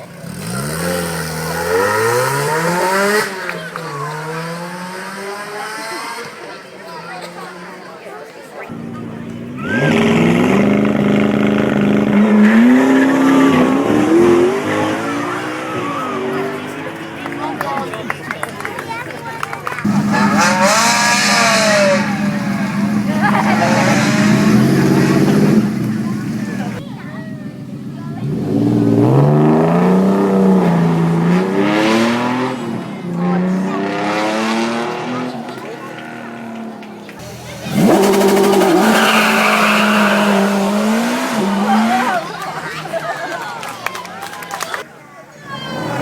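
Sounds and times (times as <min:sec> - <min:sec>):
car engine revving high: 0:00.0 - 0:06.4, 0:08.8 - 0:17.9, 0:19.8 - 0:26.8, 0:28.2 - 0:42.7.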